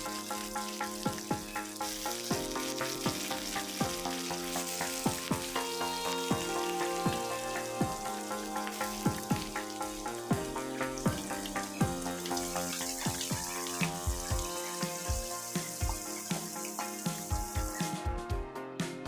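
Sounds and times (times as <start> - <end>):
fish sizzling in hot oil: 0.0 - 18.0
background music with beat: 0.0 - 19.0.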